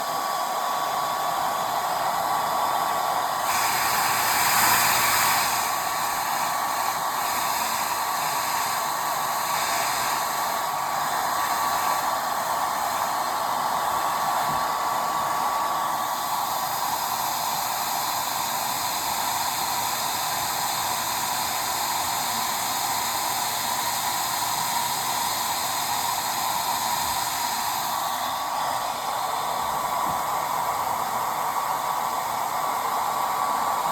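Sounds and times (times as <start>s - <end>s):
hair dryer blowing: 0.0s - 33.9s.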